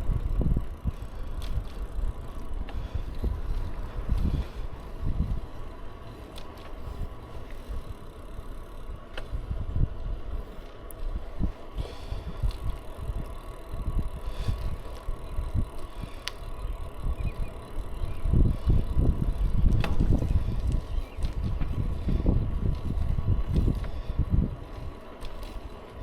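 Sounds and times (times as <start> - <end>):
bicycle clicks and rattles: 0.0 - 26.0
wind buffeting microphone: 0.0 - 26.0.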